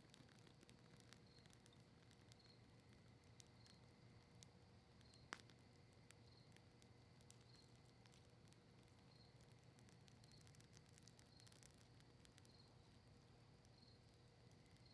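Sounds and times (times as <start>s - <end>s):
campfire crackling: 0.0s - 14.9s
low steady hiss: 0.0s - 14.9s.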